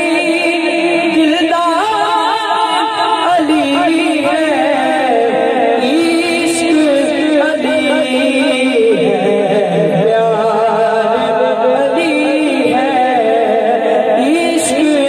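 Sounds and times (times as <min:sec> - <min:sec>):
young man singing into a microphone: 0:00.0 - 0:15.0.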